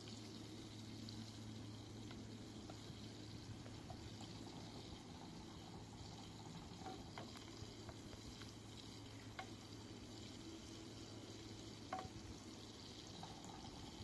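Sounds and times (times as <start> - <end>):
faint liquid sound: 0.0 - 14.0.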